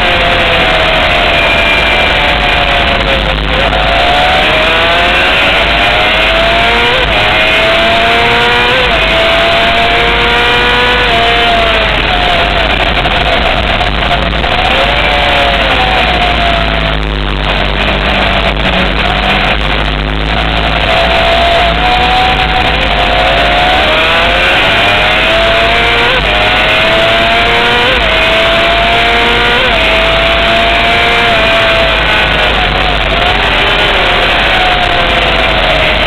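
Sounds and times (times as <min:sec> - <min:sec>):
loud wind rush: 0:00.0 - 0:36.0
motorcycle engine running hard: 0:00.0 - 0:36.0.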